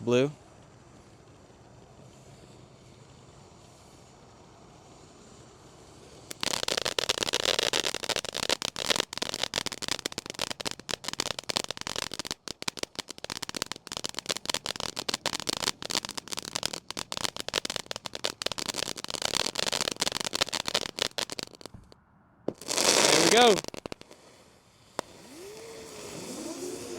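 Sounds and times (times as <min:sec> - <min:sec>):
firework crackling: 0:00.0 - 0:26.9.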